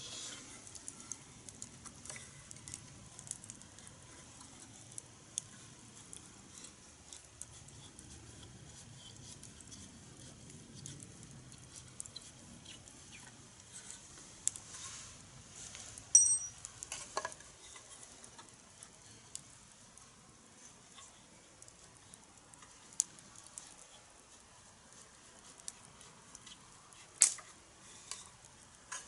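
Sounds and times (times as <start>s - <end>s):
fire hissing: 0.0s - 29.0s
campfire crackling and popping: 0.1s - 29.0s.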